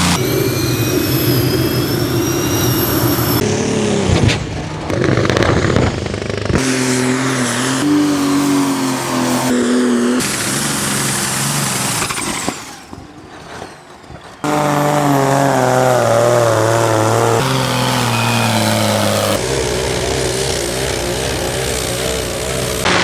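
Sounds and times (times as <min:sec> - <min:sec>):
tractor engines running hard: 0:00.0 - 0:23.0.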